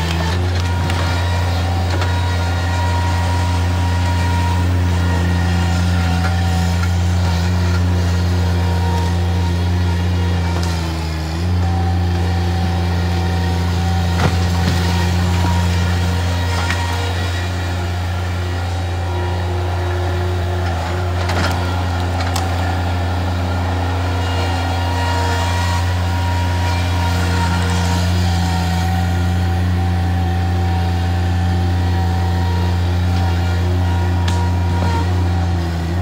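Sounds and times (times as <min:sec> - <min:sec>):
loader engine running: 0:00.0 - 0:36.0.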